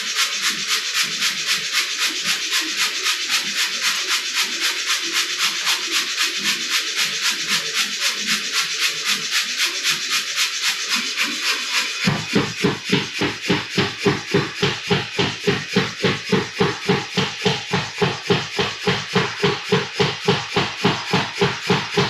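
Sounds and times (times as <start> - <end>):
background music with fast beat: 0.0 - 22.0.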